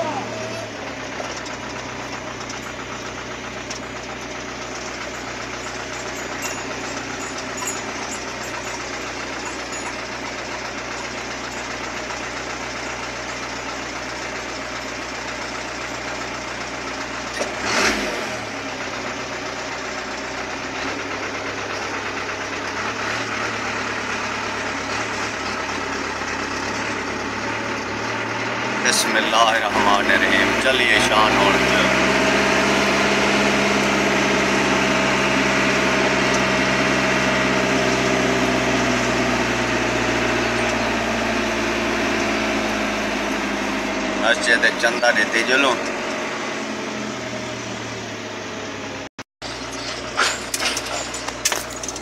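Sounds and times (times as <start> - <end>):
diesel truck engine from cab: 0.0 - 52.0.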